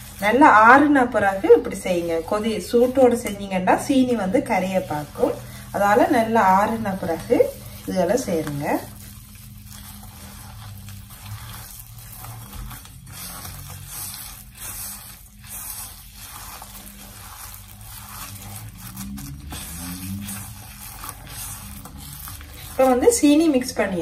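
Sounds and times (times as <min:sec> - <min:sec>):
steady low hum: 0:00.0 - 0:24.0
wet squishing of mashed beans: 0:00.0 - 0:24.0.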